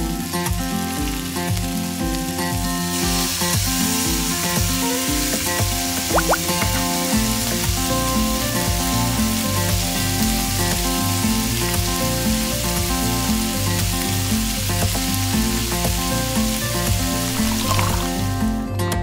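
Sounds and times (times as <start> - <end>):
meat sizzling in a frying pan: 0.0 - 18.3
background music: 0.0 - 19.0.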